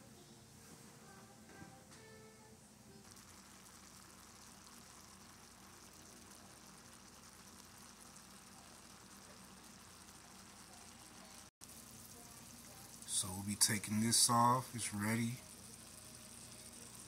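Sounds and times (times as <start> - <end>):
pot simmering bubbling: 3.0 - 17.0.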